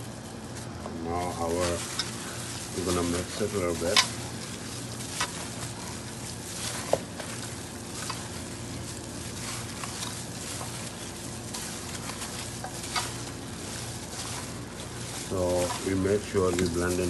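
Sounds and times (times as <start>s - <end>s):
steady low hum: 0.0s - 17.0s
wet shifting of raw meat: 0.4s - 17.0s.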